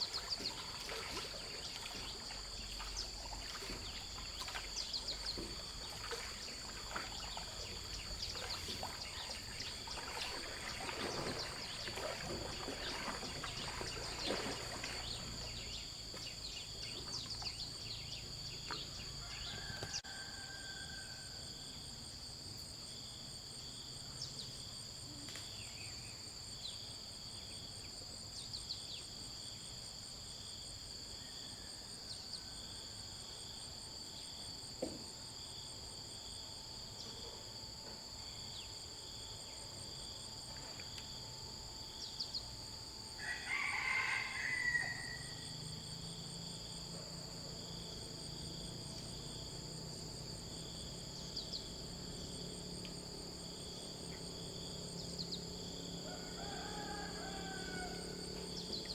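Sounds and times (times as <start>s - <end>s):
insect chorus trilling: 0.0s - 58.9s.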